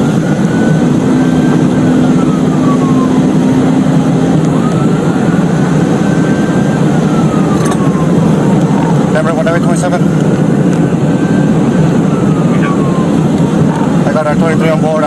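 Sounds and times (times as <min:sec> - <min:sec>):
car driving fast: 0:00.0 - 0:15.0
siren wailing: 0:00.0 - 0:15.0.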